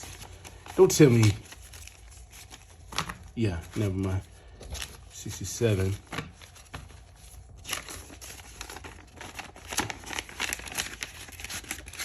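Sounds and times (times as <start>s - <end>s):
paper bills rustling: 0.0s - 12.0s.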